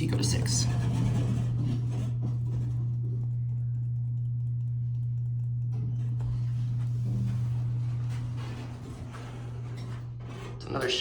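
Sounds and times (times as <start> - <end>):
elevator car hum: 0.0 - 11.0.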